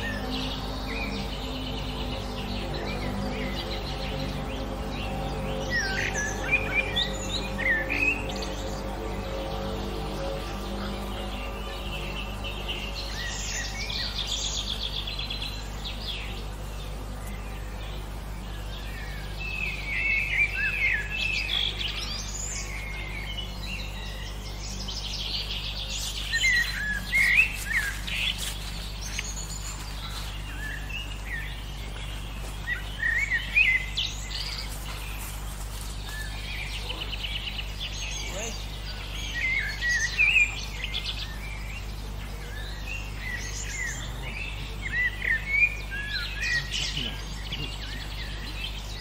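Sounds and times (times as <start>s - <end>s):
low background hum: 0.0s - 49.0s
songbirds singing: 0.0s - 49.0s.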